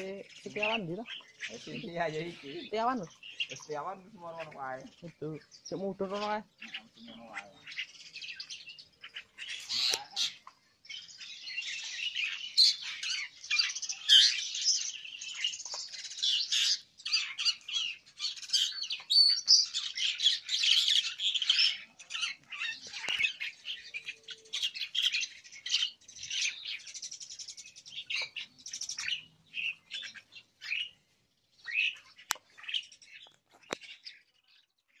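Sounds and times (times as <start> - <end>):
starlings and mynas chattering: 0.0 - 35.0.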